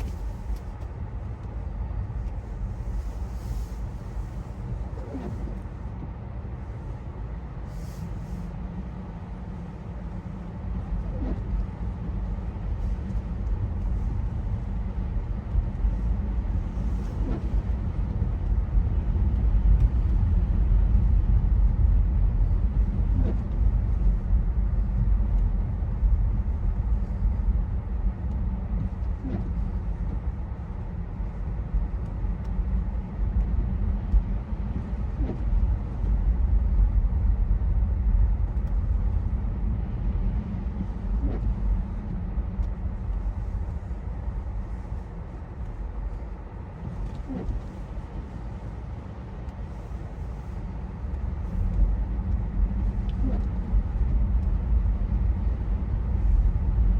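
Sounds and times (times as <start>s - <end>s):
electric car low rumble: 0.0s - 56.9s.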